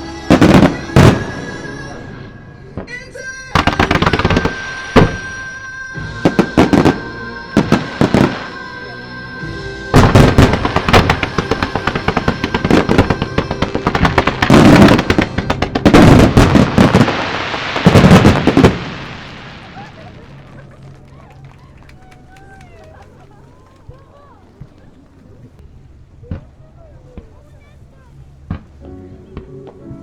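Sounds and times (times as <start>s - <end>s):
fireworks bangs and crackles: 0.0s - 8.6s, 9.4s - 29.8s
music playing: 0.0s - 25.6s, 28.7s - 30.0s.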